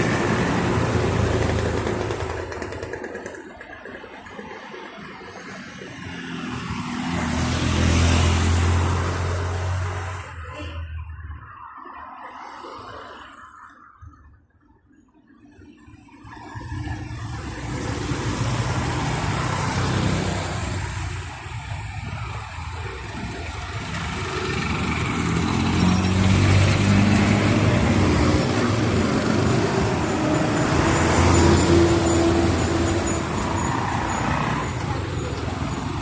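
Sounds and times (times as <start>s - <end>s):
vehicle engines passing: 0.0s - 13.4s, 16.4s - 36.0s.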